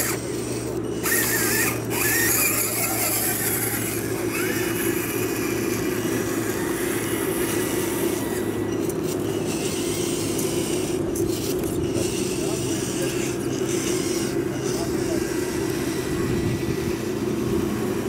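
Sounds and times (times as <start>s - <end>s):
small electric motors and gears running: 0.0s - 18.0s.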